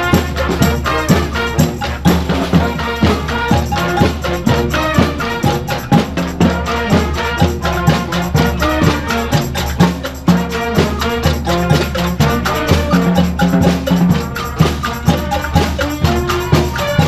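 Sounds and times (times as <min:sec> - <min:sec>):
held horn lines: 0:00.0 - 0:17.0
steady drum beat: 0:00.0 - 0:17.0
street band playing dance tune: 0:00.0 - 0:17.0.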